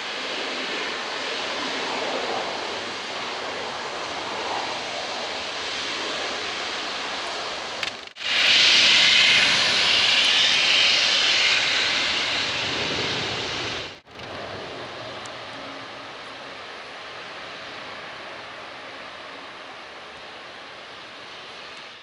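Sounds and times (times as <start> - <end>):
jet engine roar on landing: 0.0 - 22.0.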